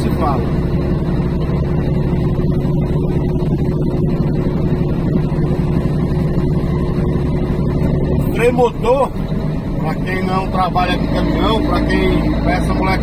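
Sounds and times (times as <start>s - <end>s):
steady hum: 0.0s - 13.0s
truck diesel engine drone: 0.0s - 13.0s.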